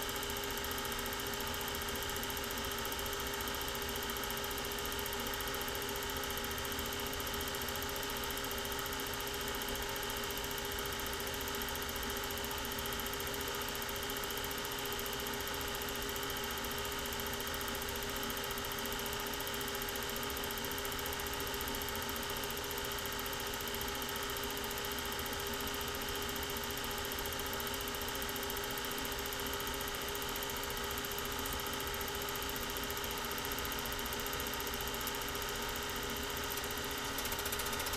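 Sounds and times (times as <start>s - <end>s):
film projector whirring: 0.0s - 37.9s.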